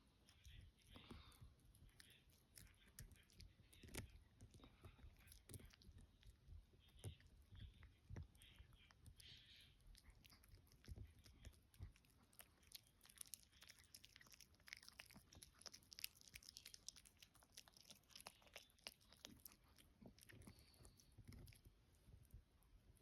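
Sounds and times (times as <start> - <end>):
dog chewing: 0.2 - 22.4.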